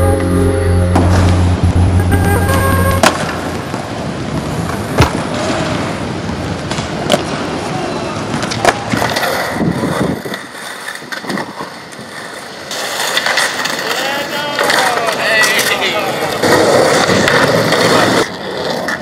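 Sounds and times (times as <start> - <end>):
skateboard wheels rolling: 0.0 - 19.0
skateboard clacks: 2.0 - 19.0.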